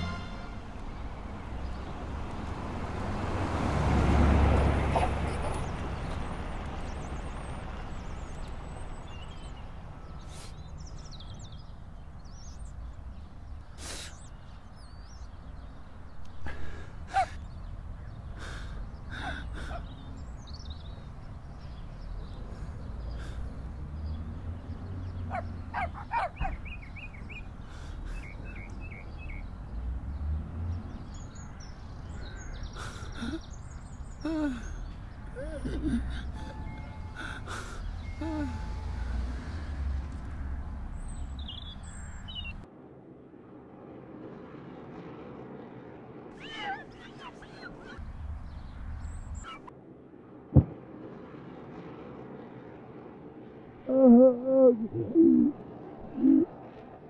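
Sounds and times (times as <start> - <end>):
birds chirping: 0.0 - 42.7, 46.3 - 49.7, 53.8 - 56.9.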